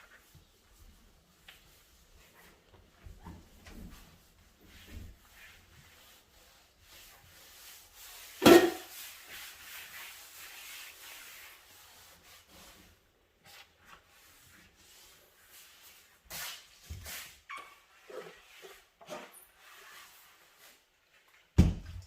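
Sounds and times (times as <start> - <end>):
brush scrubbing stovetop: 0.0 - 21.4.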